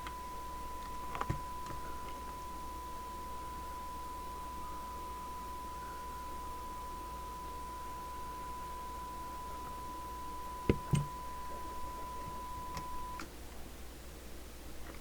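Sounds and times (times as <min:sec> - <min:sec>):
steady radio test tone: 0:00.0 - 0:13.2.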